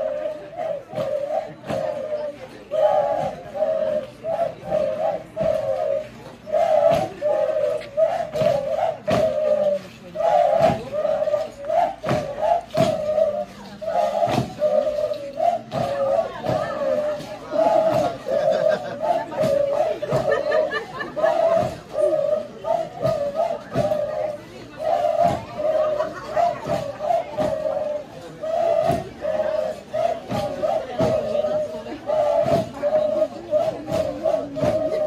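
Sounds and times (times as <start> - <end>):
flute-like wind instruments: 0.0 - 35.0
group chanting in unison: 0.0 - 35.0
dancers stamping: 4.6 - 35.0.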